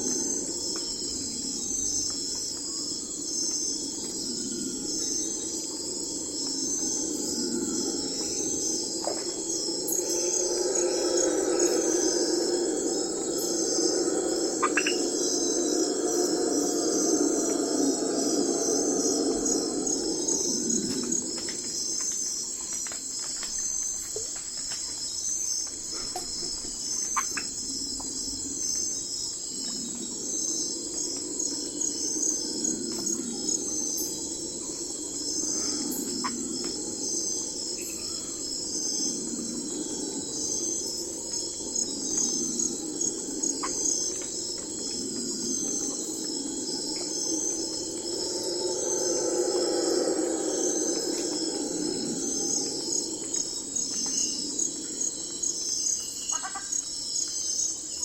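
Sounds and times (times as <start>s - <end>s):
low wavering drone: 0.0s - 23.0s, 25.9s - 58.0s
crickets chirping: 0.0s - 58.0s.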